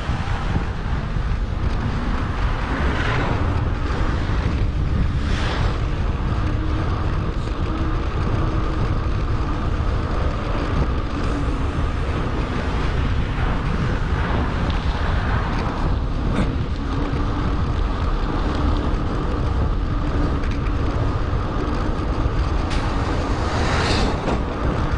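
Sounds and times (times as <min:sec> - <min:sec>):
wind rushing over microphone: 0:00.0 - 0:24.9.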